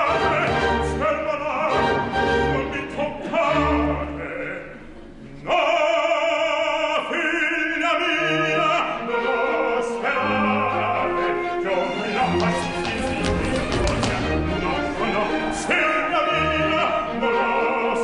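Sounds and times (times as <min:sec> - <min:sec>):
orchestra playing: 0:00.0 - 0:05.1, 0:07.1 - 0:18.0
operatic voice singing: 0:00.0 - 0:18.0.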